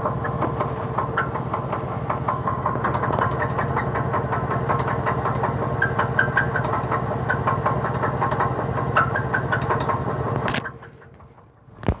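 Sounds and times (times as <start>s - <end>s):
engine knocking: 0.0s - 12.0s.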